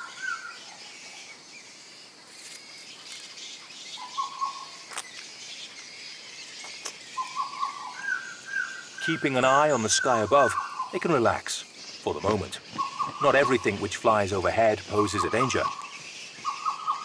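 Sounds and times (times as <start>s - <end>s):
birds chirping: 0.0s - 17.0s
high insect hiss: 0.0s - 17.0s.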